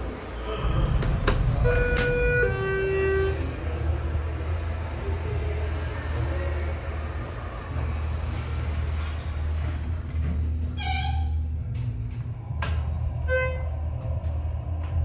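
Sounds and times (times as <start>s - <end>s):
elevator low hum: 0.0s - 15.0s.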